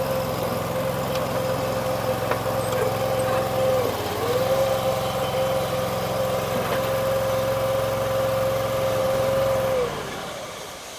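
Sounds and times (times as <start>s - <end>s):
mini skid steer engine: 0.0s - 10.9s.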